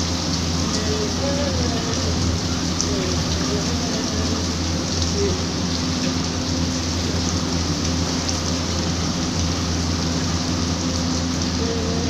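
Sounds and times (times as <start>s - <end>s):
low steady hum: 0.0s - 12.0s
steady rain falling: 0.0s - 12.0s.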